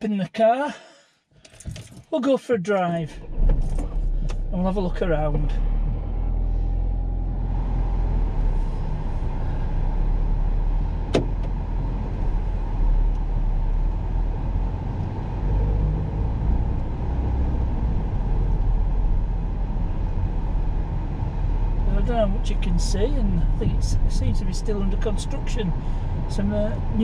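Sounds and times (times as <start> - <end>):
car engine and tyre rumble: 1.4 - 27.0.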